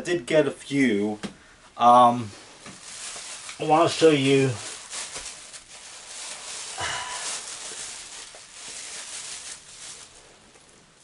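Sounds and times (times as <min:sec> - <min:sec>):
rustling and shuffling: 0:01.2 - 0:11.0.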